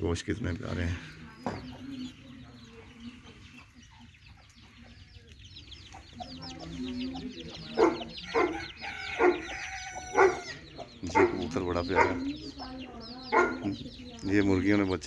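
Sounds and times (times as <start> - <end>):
baby chicks peeping: 0.0 - 15.0.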